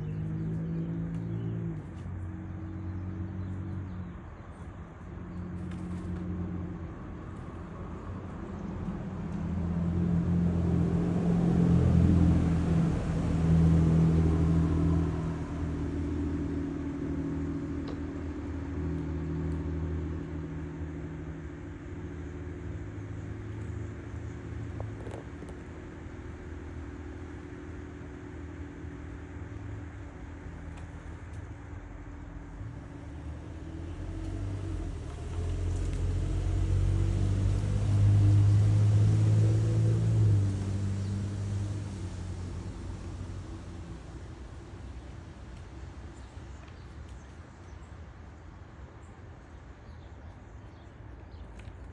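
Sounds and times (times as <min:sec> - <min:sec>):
vehicle engine passing by: 0:00.0 - 0:47.6
low mechanical rumble with hum: 0:00.0 - 0:51.9.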